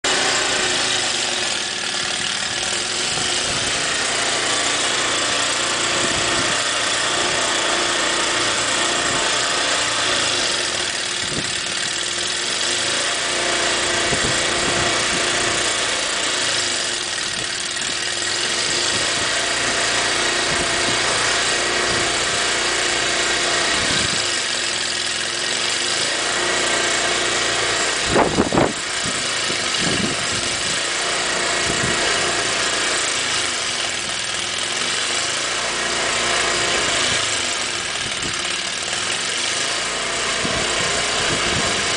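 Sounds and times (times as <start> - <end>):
snow thrower engine running: 0.0 - 41.9.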